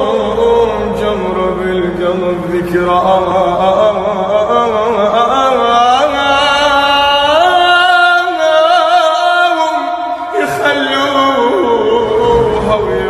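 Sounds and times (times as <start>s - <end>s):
young man singing: 0.0s - 13.0s.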